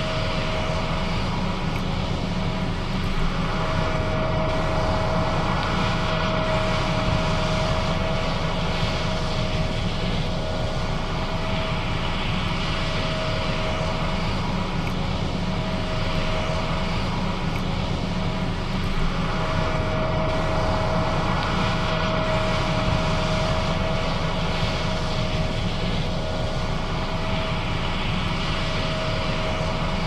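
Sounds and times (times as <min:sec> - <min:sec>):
combine harvester drone: 0:00.0 - 0:30.0
steady machine whine: 0:00.0 - 0:30.0.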